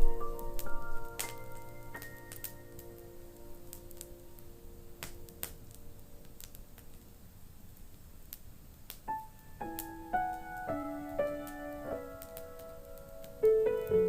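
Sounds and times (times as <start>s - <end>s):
slow solo piano: 0.0s - 7.0s, 9.1s - 14.0s
fireplace crackling: 0.0s - 14.0s.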